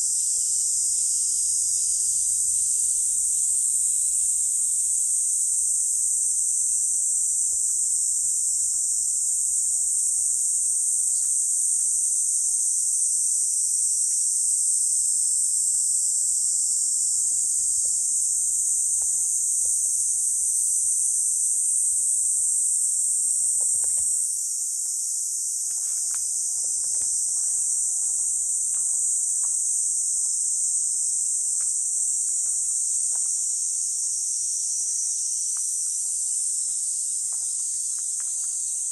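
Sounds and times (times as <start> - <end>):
cicadas chorus drone: 0.0 - 38.9.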